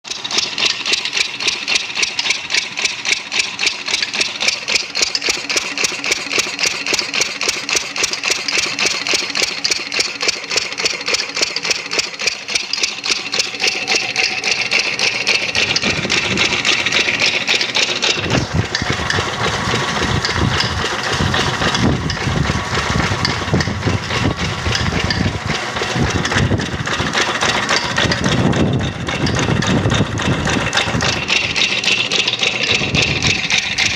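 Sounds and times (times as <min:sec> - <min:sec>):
engine running with fast pulses: 0:00.0 - 0:33.9.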